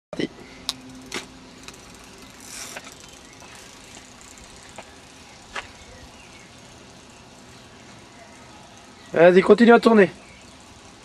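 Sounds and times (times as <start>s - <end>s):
faint outdoor background noise: 0.1s - 11.0s.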